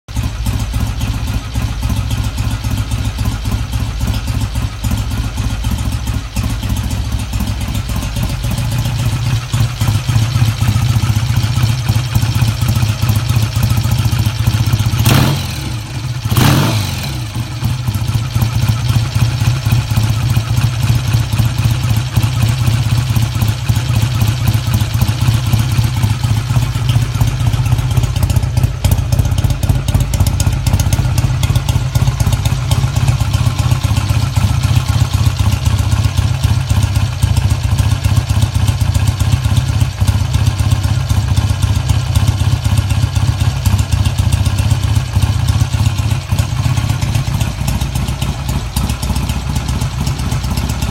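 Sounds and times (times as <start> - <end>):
motorcycle engine running steadily: 0.0 - 50.9.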